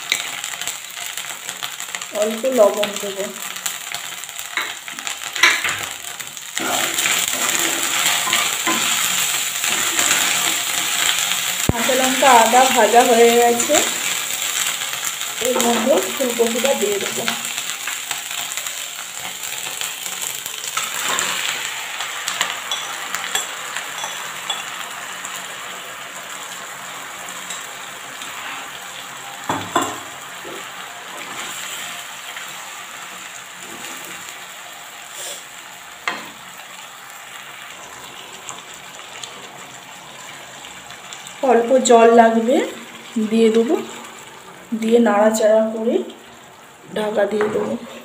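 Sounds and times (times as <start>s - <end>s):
cauliflower sizzling in oil: 0.0s - 48.0s.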